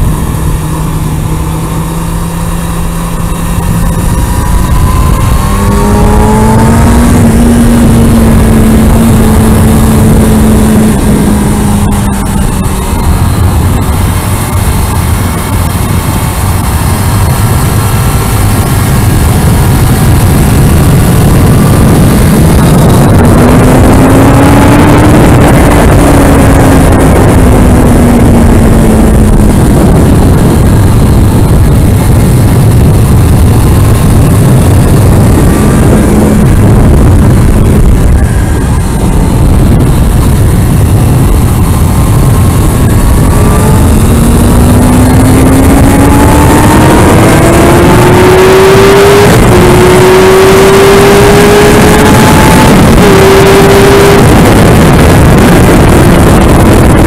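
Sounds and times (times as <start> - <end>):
motorcycle engine running hard: 0.0 - 57.0
wind roar on microphone: 0.0 - 57.0.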